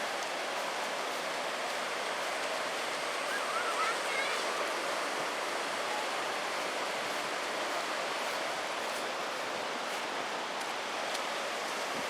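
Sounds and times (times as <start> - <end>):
rushing river: 0.0 - 12.0.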